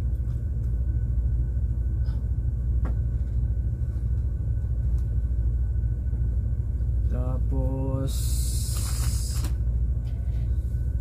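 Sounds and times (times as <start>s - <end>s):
faint steady whine: 0.0s - 11.0s
ship machinery rumble: 0.0s - 11.0s.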